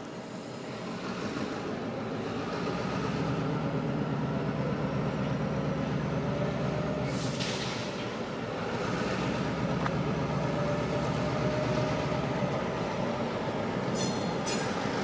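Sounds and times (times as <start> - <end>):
diesel locomotive engines running: 0.0 - 15.0.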